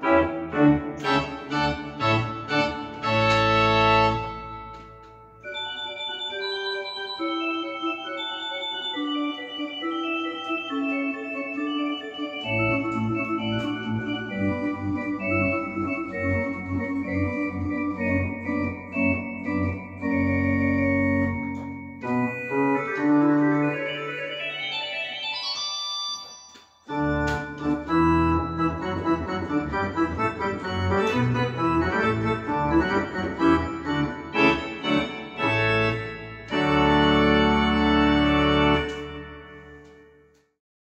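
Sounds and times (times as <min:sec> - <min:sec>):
organ music: 0:00.0 - 0:40.4.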